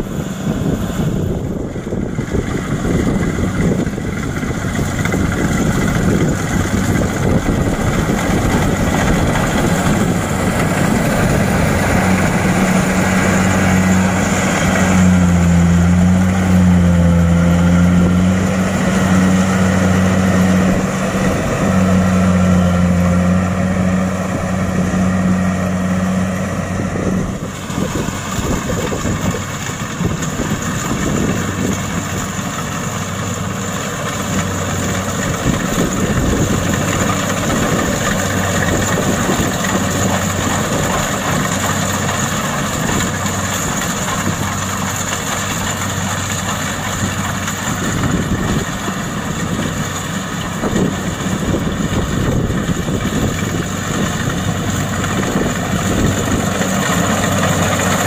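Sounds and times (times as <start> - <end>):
combine harvester running: 0.0 - 58.0
low engine drone: 0.0 - 58.0.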